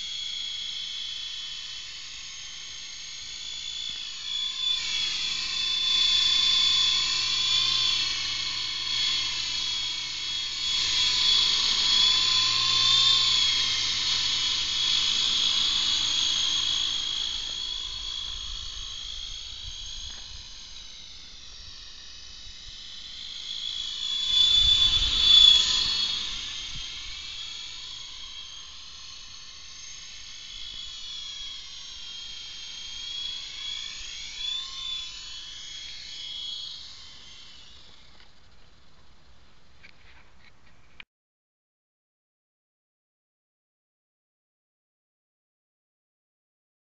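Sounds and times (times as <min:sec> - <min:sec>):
model helicopter whine: 0:00.0 - 0:41.0.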